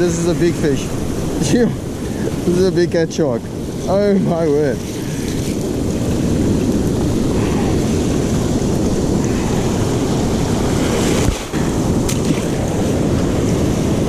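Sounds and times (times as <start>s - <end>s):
surf against rocks: 0.0s - 14.0s
wind buffeting microphone: 0.0s - 14.0s.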